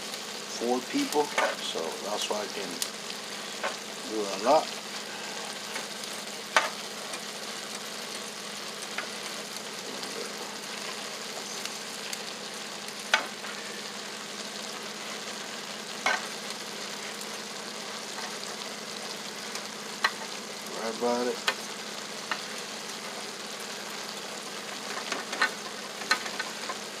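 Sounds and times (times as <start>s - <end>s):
rice sizzling in a pan: 0.0s - 27.0s.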